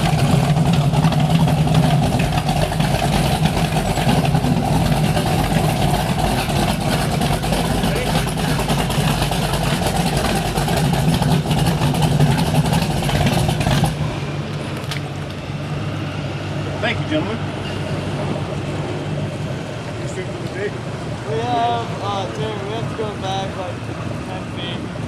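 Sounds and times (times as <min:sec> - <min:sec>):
rush of wind and water: 0:00.0 - 0:25.0
speedboat engine hum: 0:00.0 - 0:25.0.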